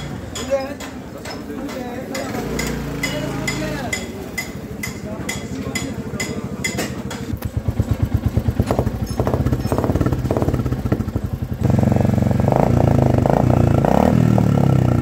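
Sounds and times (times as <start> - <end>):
motorcycle exhaust idling and revving: 2.1 - 15.0.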